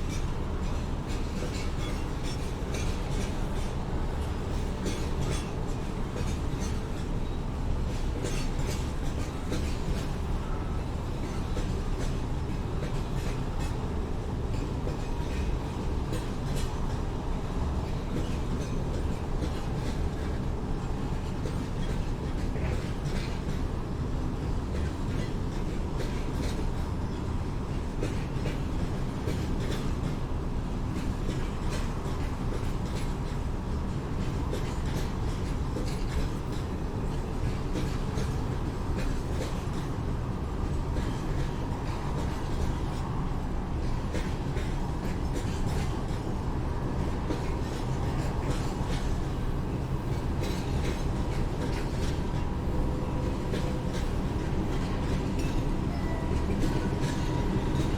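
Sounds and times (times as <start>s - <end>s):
train rumbling: 0.0s - 57.9s.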